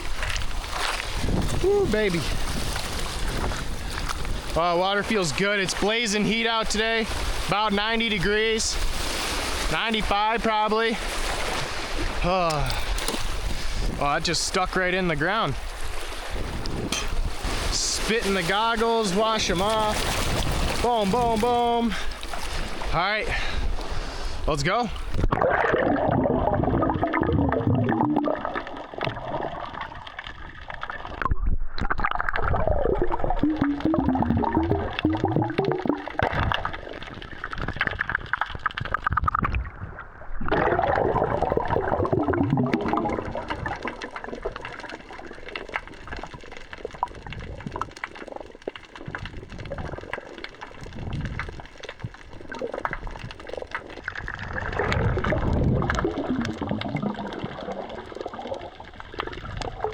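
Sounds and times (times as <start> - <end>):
water gurgling and sloshing: 0.0 - 59.9.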